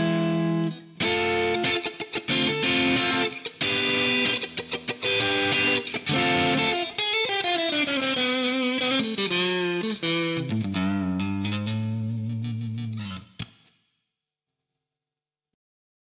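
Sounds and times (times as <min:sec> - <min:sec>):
overdriven electric guitar: 0:00.0 - 0:13.7.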